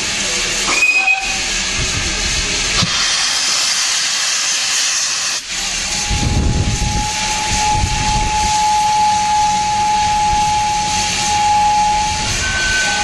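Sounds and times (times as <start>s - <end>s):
locomotive steam hissing: 0.0s - 13.0s
low rumble of locomotive moving: 0.0s - 13.0s.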